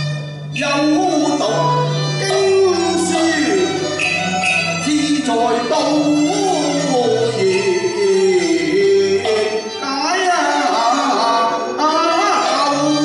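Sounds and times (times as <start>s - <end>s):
chinese instrumental ensemble: 0.0s - 13.0s.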